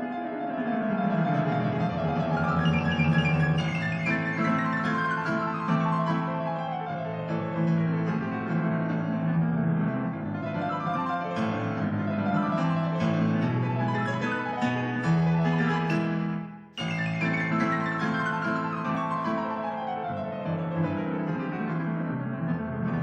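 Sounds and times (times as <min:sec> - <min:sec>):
piano playing fast runs: 0:00.0 - 0:23.0.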